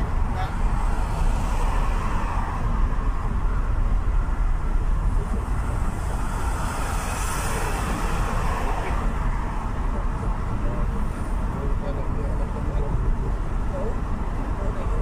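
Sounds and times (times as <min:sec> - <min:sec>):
road and engine noise in cabin: 0:00.0 - 0:15.0.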